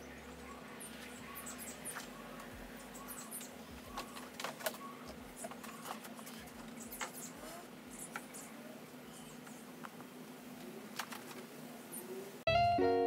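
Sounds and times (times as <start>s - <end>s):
small birds chirping: 0.0s - 12.4s
faint steady hum: 0.0s - 13.0s.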